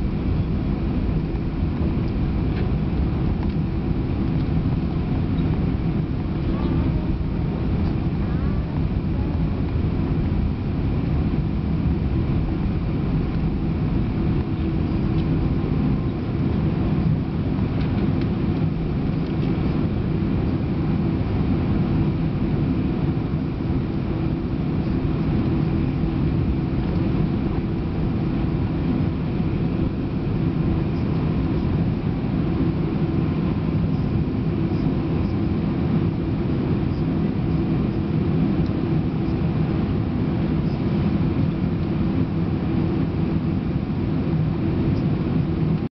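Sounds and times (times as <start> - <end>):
constant low rumble: 0.0 - 45.9
faint steady hum: 0.0 - 45.9
jet engines idling: 0.0 - 45.9.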